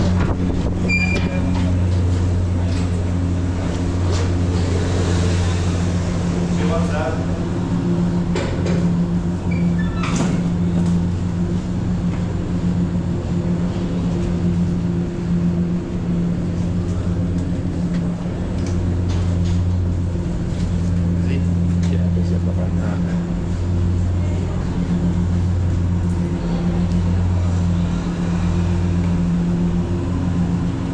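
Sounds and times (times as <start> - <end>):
ferry engine humming: 0.0 - 30.9.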